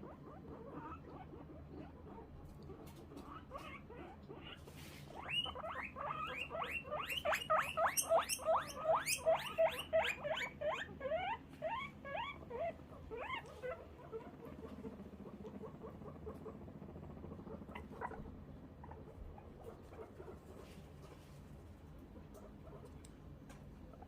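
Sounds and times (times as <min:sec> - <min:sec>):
guinea pig squealing: 0:00.0 - 0:21.3, 0:22.2 - 0:24.0.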